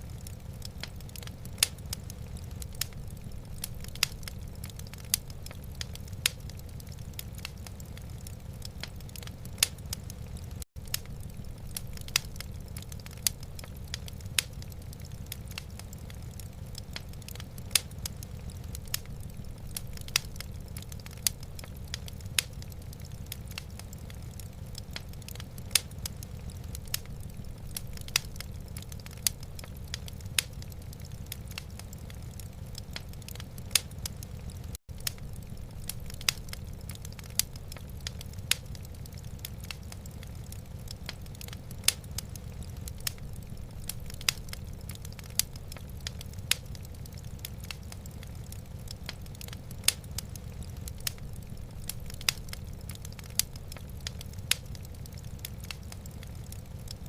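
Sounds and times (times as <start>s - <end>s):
fire low rumble: 0.0s - 57.0s
wood fire crackling: 0.0s - 57.0s.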